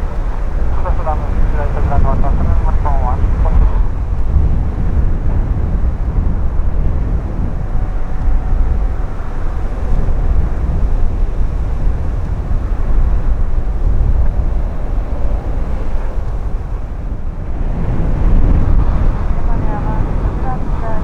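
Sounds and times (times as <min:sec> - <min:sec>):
distant aircraft engine drone: 0:00.0 - 0:21.0
wind rumbling on microphone: 0:00.0 - 0:21.0.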